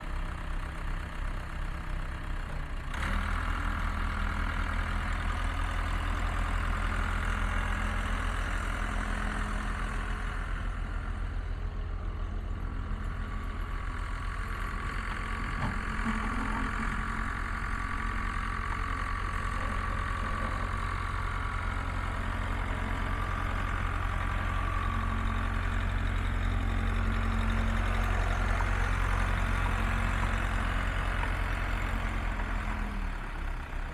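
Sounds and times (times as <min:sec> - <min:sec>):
backhoe engine running: 0:00.0 - 0:33.9.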